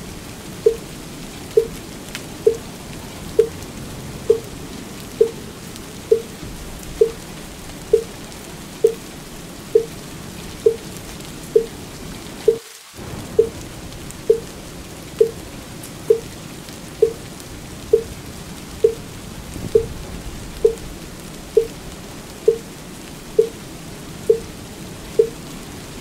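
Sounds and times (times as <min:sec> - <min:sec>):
steady rain hiss: 0:00.0 - 0:26.0.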